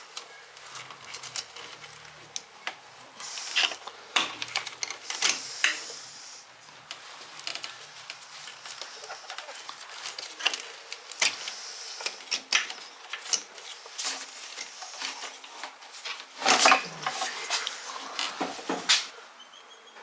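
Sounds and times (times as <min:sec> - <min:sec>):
tools clicking and clattering: 0:00.2 - 0:05.8, 0:07.3 - 0:18.9.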